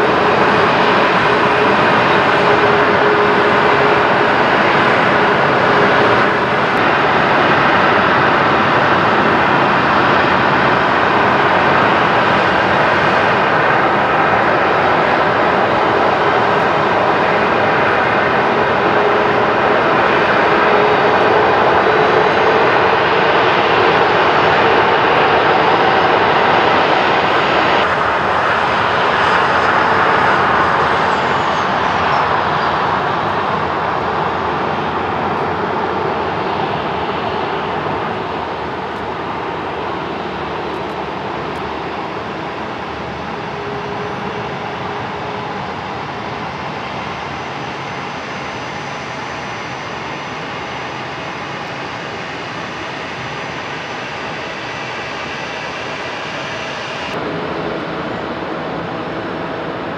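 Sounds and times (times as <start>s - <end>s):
high whine falling in pitch: 0.0s - 59.9s
jet engines hiss and rumble: 0.0s - 59.9s.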